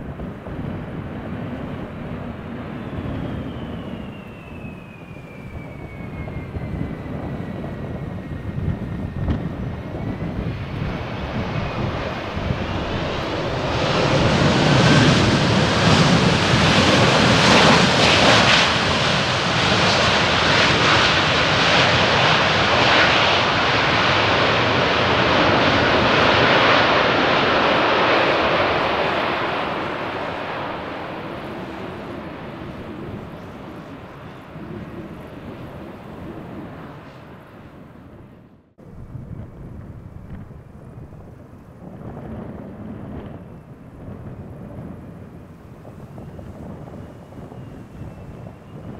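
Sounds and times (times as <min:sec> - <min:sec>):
jet engines passing: 0:00.0 - 0:48.9.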